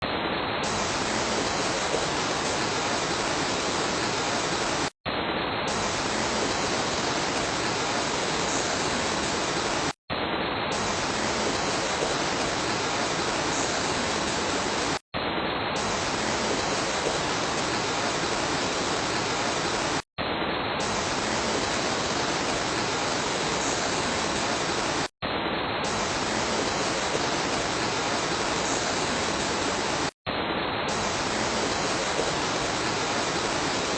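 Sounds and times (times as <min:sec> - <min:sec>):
steady rain: 0:00.6 - 0:04.9, 0:05.7 - 0:15.0, 0:15.7 - 0:20.0, 0:20.7 - 0:25.1, 0:25.8 - 0:30.2, 0:30.8 - 0:33.9.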